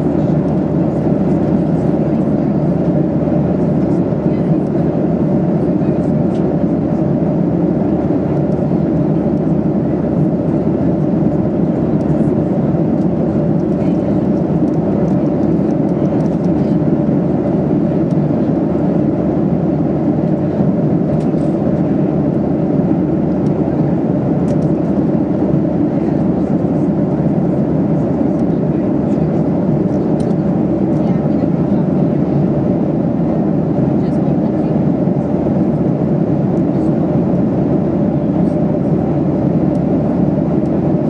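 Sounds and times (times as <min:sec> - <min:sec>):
airplane cabin drone: 0:00.0 - 0:41.0.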